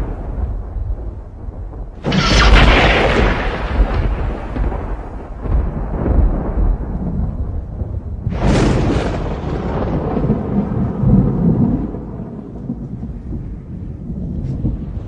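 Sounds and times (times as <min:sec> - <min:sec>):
rolling thunder rumble: 0:00.0 - 0:15.0
thunderclap: 0:00.0 - 0:15.0.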